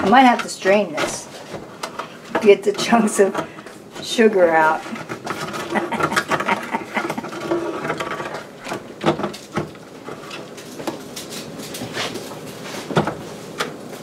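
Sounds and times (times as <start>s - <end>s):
wooden spoon scraping saucepan: 0.0s - 13.0s.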